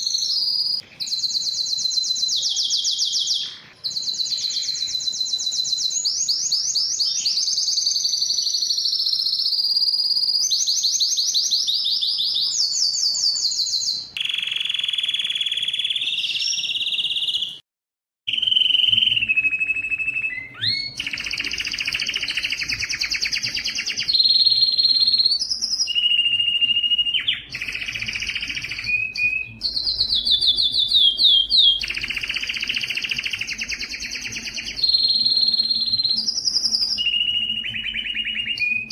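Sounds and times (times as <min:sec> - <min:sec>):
canary singing trills: 0:00.0 - 0:17.6, 0:18.3 - 0:38.9.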